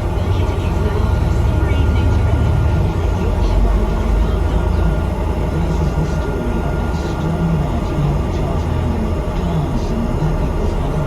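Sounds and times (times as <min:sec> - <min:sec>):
bus engine rumbling: 0:00.0 - 0:11.0
road noise: 0:00.0 - 0:11.0.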